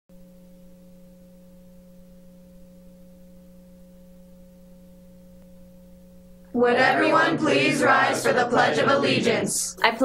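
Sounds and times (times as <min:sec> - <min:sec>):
electrical mains hum: 0:00.1 - 0:10.0.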